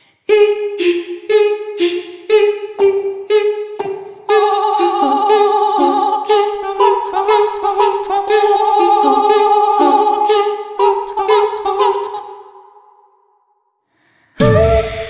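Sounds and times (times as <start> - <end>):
a cappella voices singing harmony: 0.0 - 13.2, 14.4 - 15.0.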